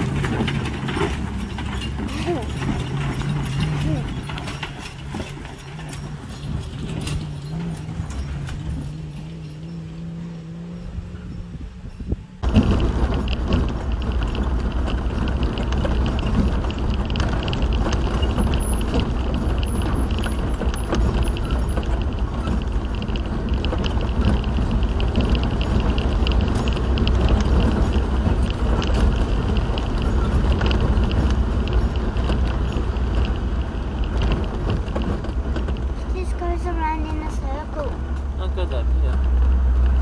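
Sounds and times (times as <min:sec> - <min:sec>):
car cabin engine rumble: 0:00.0 - 0:10.0, 0:10.7 - 0:40.0.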